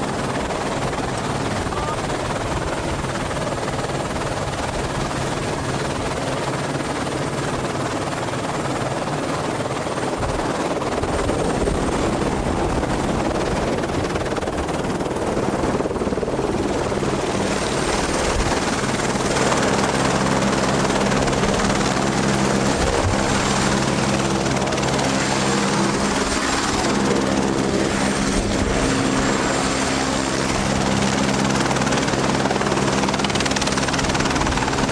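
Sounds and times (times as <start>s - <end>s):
helicopter turbine and rotor: 0.0s - 34.9s.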